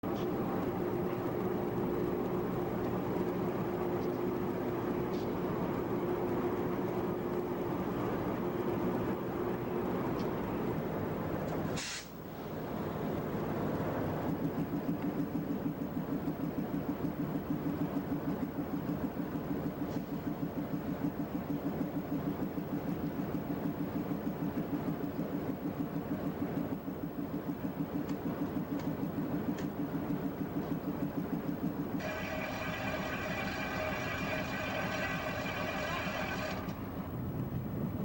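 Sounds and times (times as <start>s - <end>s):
diesel locomotive running: 0.0s - 38.0s.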